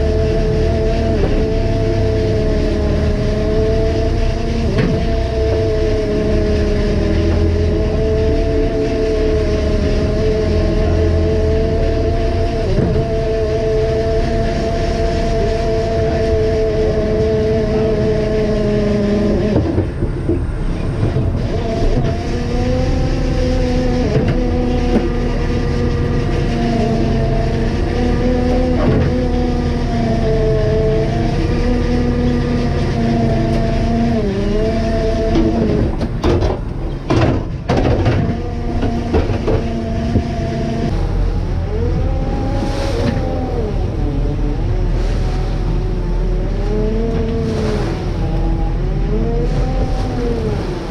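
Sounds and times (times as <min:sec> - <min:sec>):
boat engine droning: 0:00.0 - 0:50.9.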